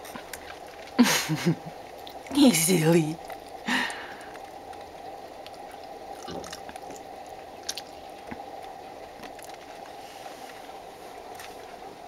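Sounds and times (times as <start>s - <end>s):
refrigerator hum: 0.0s - 12.0s.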